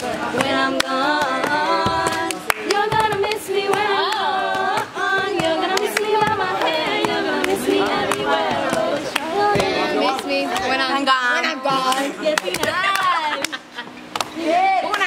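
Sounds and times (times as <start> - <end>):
rhythmic hand clapping and slapping: 0.0 - 15.0
women singing together: 0.0 - 15.0.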